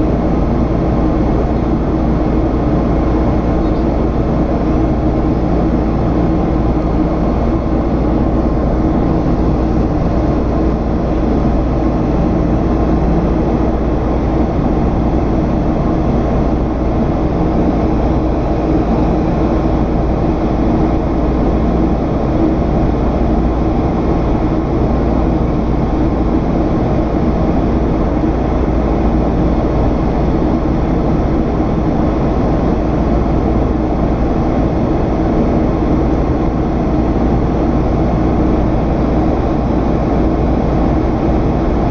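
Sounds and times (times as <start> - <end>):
constant low hums: 0.0 - 41.9
jet engine cabin rush: 0.0 - 41.9.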